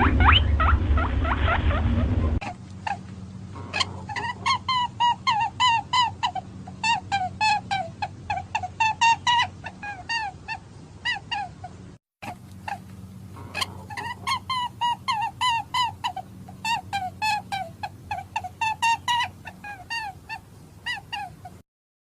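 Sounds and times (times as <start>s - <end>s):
rabbit squeaking: 0.0s - 21.6s
steady low hum: 0.0s - 21.6s.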